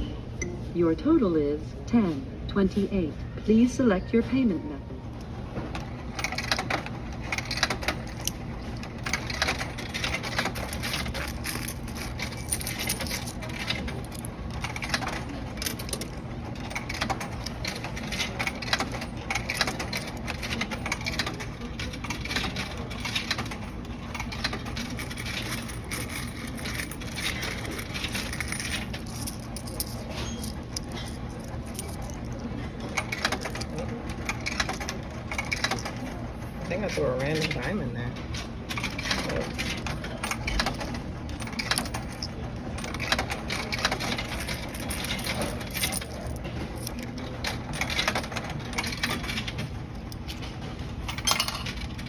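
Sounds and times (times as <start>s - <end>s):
coins clinking into machine: 5.2s - 52.0s.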